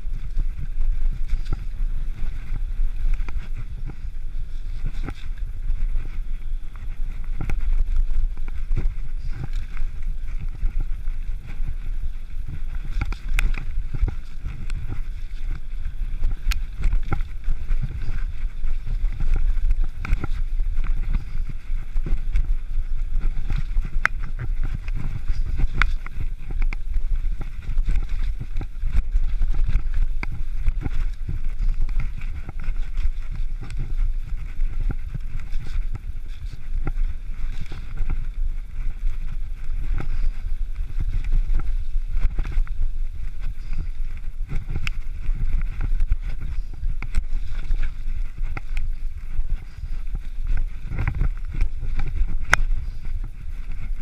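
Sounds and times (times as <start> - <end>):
bike clicks and rattles: 0.0 - 54.0
mountain bike tyres rumbling: 0.0 - 54.0
wind on microphone: 0.0 - 54.0.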